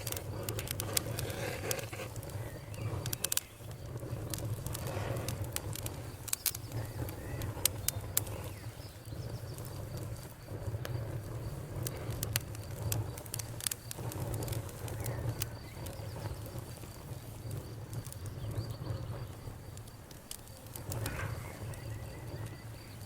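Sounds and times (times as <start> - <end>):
campfire crackling and popping: 0.0 - 23.0
low rumble of burning wood: 0.0 - 23.0.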